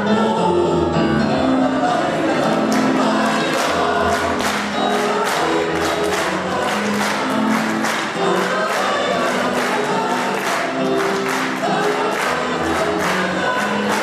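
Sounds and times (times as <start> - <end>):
mixed choir singing: 0.0 - 14.0.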